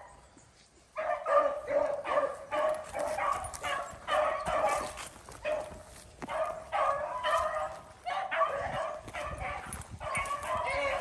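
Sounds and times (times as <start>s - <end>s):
hounds baying: 0.0s - 11.0s.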